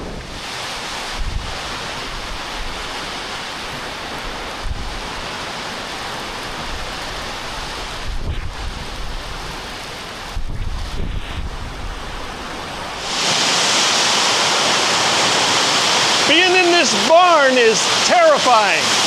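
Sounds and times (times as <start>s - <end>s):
heavy rain on a roof: 0.0s - 19.0s.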